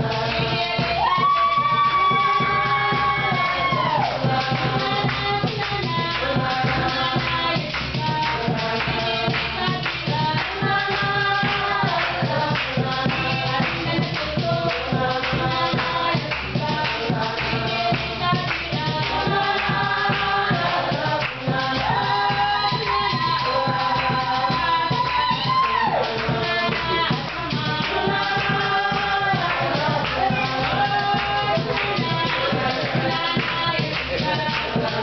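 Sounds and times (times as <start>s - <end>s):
group of voices singing: 0.0s - 35.0s
hand percussion beat: 0.0s - 35.0s.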